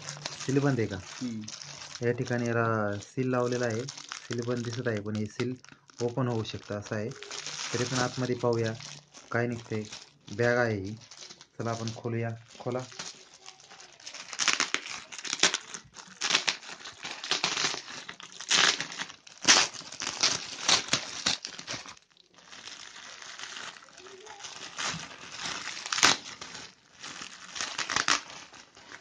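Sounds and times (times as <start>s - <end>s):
plastic bag crinkling: 0.0s - 29.0s.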